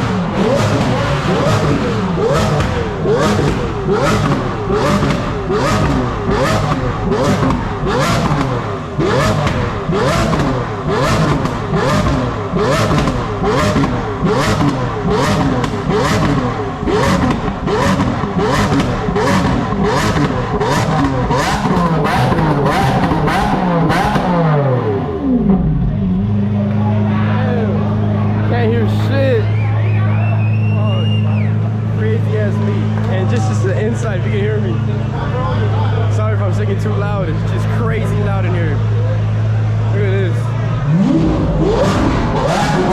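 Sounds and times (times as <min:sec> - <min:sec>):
car engines revving: 0:00.0 - 0:42.9
engines running rumble: 0:00.0 - 0:42.9.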